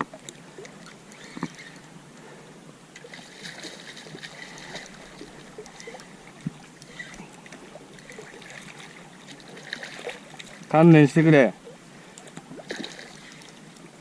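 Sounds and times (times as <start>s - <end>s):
water lapping and sloshing: 0.0s - 14.0s.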